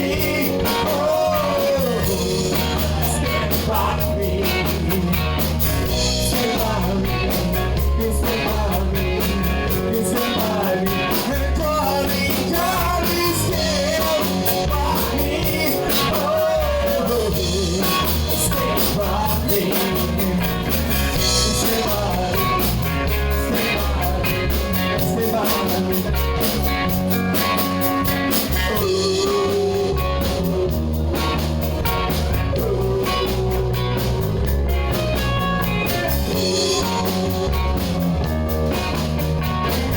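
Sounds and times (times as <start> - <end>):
person singing: 0.0 - 26.7, 28.3 - 38.1
drums: 0.0 - 39.9
live rock band playing: 0.0 - 39.9.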